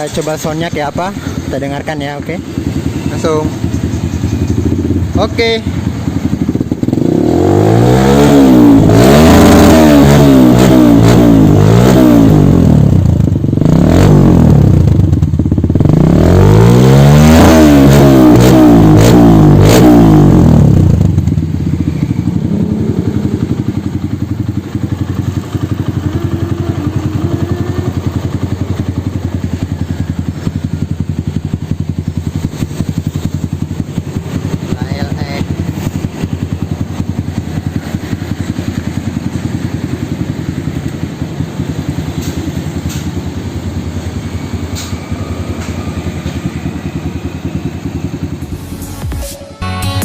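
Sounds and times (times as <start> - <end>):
motorcycle engine idling: 0.0 - 8.9, 11.2 - 16.1, 20.0 - 48.8
motorcycle engine revving: 0.0 - 49.4.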